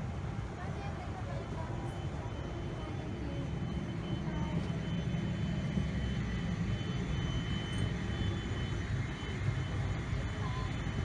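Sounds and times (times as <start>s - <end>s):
airliner cabin engine rumble: 0.0s - 11.0s
faint high whine: 0.0s - 11.0s.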